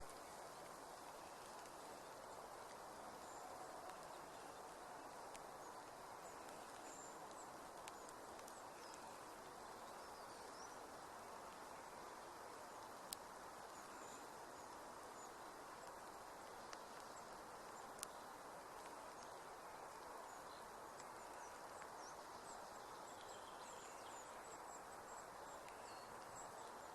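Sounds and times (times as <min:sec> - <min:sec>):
light rain hiss: 0:00.0 - 0:26.9.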